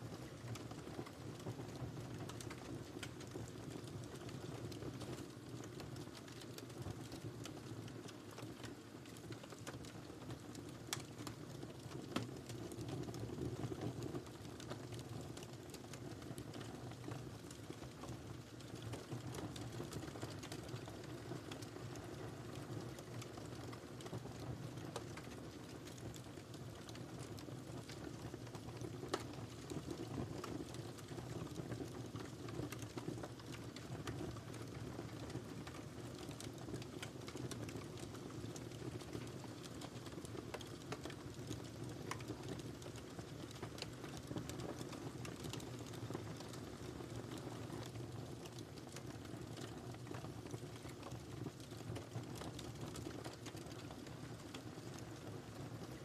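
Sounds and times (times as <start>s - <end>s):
fireplace fire crackling: 0.0s - 56.0s.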